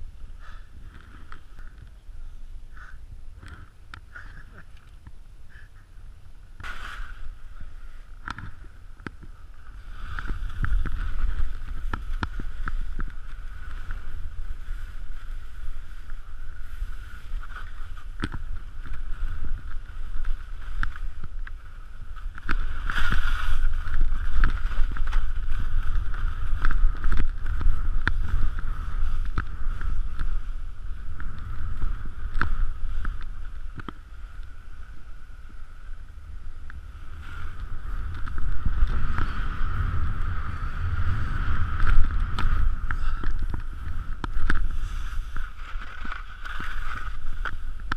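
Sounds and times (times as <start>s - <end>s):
wind rushing over microphone: 0.0s - 47.9s
skis scraping over snow: 6.6s - 47.9s.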